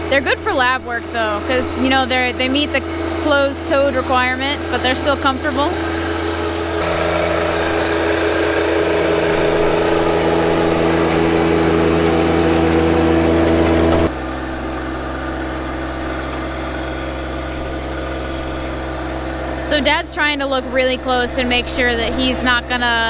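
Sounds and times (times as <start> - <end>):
rototiller churning soil: 0.0 - 23.0
tractor diesel engine running: 0.0 - 23.0.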